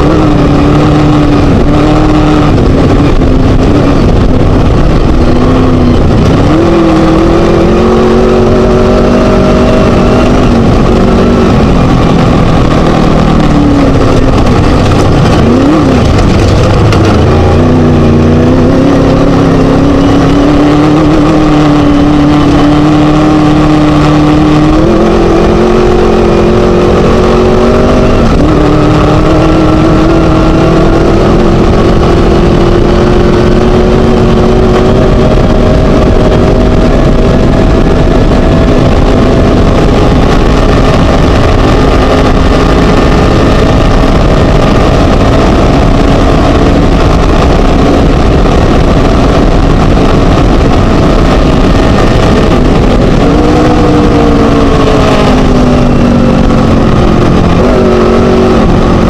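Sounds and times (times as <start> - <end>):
buggy engine running hard: 0.0 - 59.0
loud rumble and rattle: 0.0 - 59.0.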